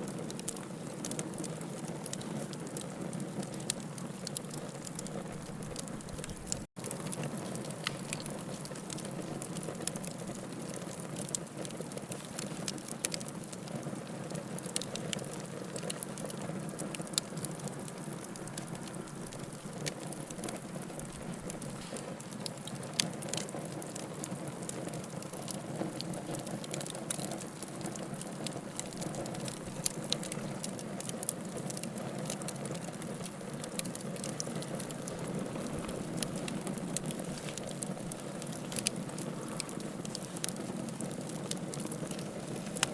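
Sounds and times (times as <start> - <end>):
fire crackling in fireplace: 0.0 - 42.9.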